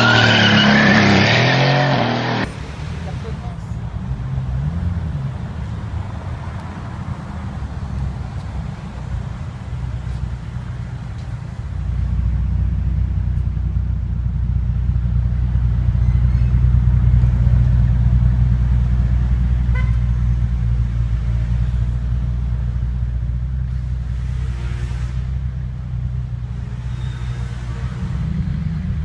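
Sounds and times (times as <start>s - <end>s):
car engine and exhaust drone: 0.0s - 29.0s.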